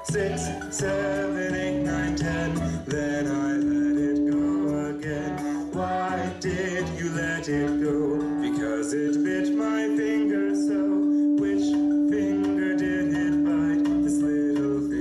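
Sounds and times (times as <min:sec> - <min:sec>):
person singing: 0:00.0 - 0:15.0
steady held tone: 0:00.0 - 0:15.0.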